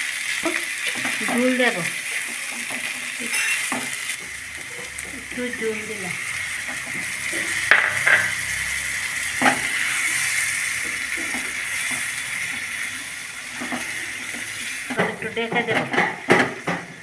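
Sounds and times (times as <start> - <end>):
curry sizzling and simmering: 0.0 - 17.0.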